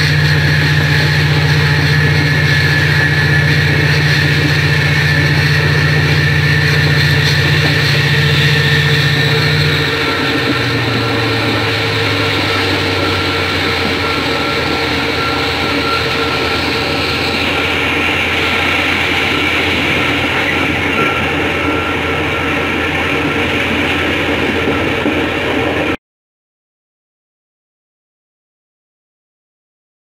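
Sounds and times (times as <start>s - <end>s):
train engine drone: 0.0s - 26.0s
train wheels on rails: 0.0s - 26.0s.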